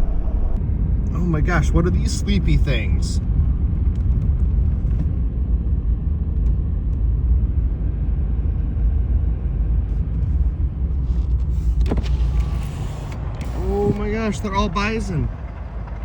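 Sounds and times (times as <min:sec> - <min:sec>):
truck road and engine noise: 0:00.0 - 0:16.0.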